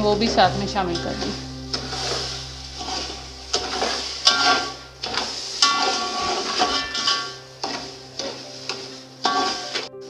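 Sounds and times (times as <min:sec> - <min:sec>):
sugar sizzling in hot oil: 0:00.0 - 0:09.9
metal spoon scraping a pot: 0:01.0 - 0:09.9.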